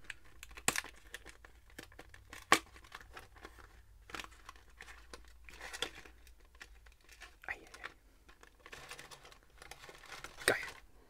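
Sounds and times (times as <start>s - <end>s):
packaging torn and crinkled: 0.0s - 10.9s.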